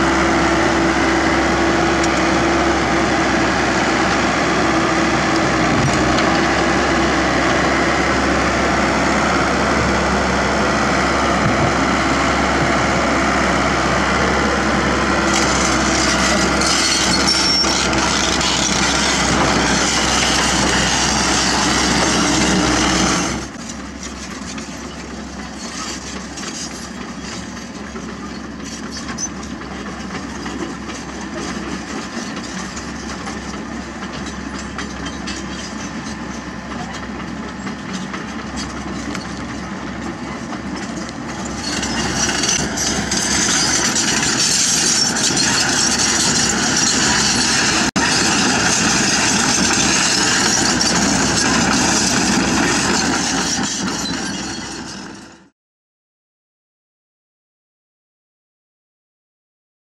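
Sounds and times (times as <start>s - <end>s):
excavator diesel engine running: 0.0s - 55.5s
hydraulics and bucket working: 0.0s - 55.5s.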